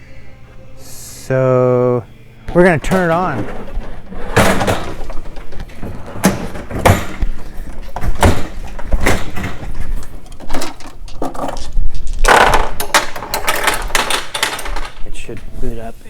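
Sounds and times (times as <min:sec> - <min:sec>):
knocks and clunks of machine handling: 0:02.5 - 0:15.5.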